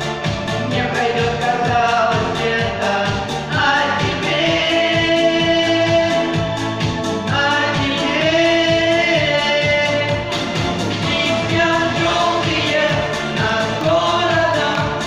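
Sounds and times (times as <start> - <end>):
backing track with bass beat: 0.0 - 15.0
vocal duet singing: 0.0 - 15.0.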